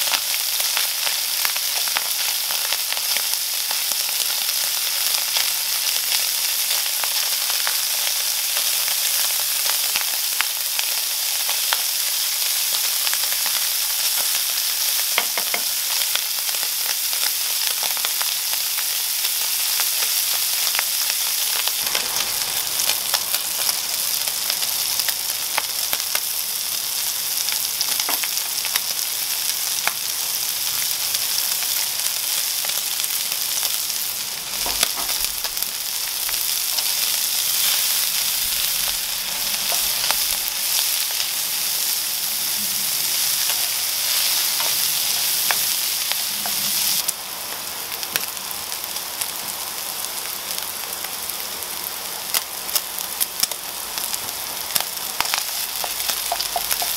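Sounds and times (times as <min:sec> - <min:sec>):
meat sizzling in a pan: 0:00.0 - 0:56.9.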